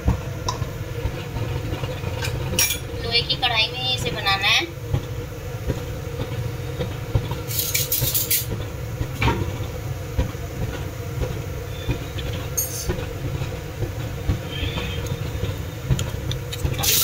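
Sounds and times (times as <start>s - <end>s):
gas burner rumble: 0.0s - 17.0s
hot oil spitting hisses: 0.0s - 17.0s.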